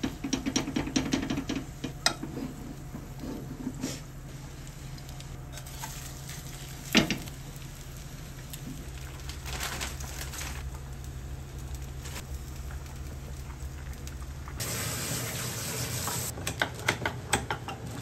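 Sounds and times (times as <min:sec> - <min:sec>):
steady low hum: 0:00.0 - 0:14.6
batter sizzling in frying pan: 0:00.0 - 0:16.4.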